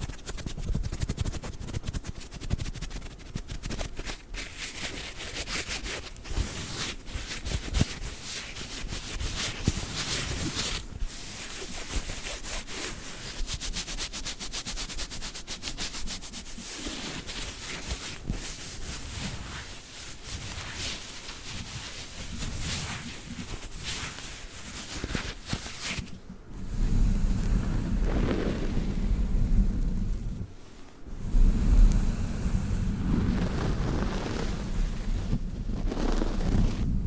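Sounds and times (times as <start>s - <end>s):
gloved hands rubbing: 0.0s - 37.0s.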